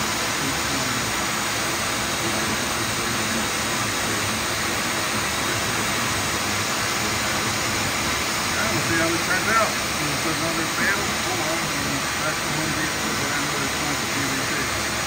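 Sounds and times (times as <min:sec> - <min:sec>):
cnc router rushing noise: 0:00.0 - 0:15.0.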